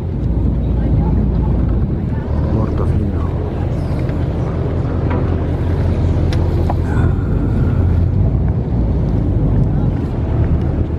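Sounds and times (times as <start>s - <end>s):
boat engine rumbling: 0.0s - 10.9s.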